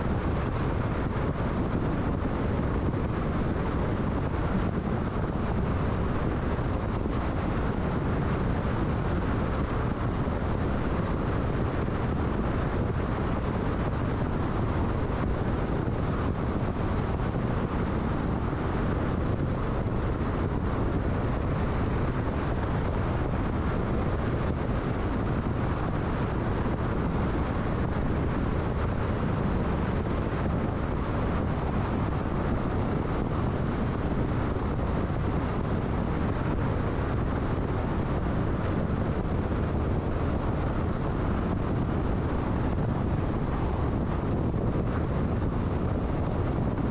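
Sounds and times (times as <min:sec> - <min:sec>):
car road and wind noise: 0:00.0 - 0:46.9.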